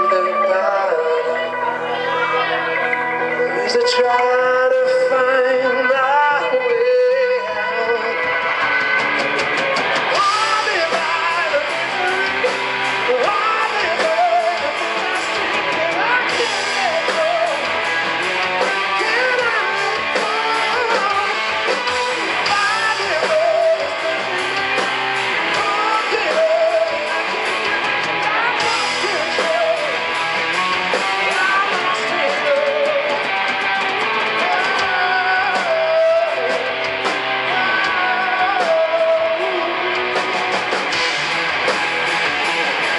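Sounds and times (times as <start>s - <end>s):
bending lead guitar line: 0.0s - 42.9s
live rock band playing: 0.0s - 42.9s.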